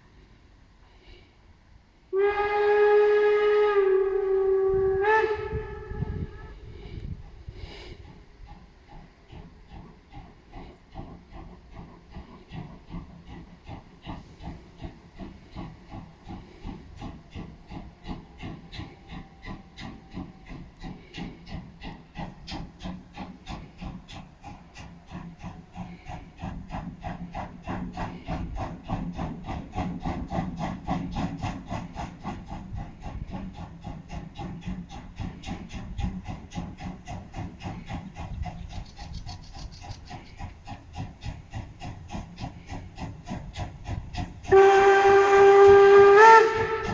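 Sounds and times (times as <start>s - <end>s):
steam locomotive exhaust chuffing: 0.0s - 46.9s.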